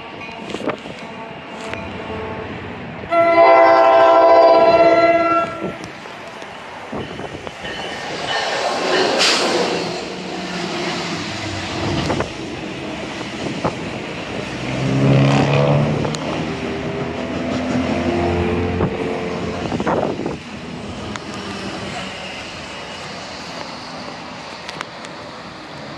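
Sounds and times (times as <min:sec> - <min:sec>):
train coaches rolling: 0:00.0 - 0:25.9
train passing: 0:00.0 - 0:25.9.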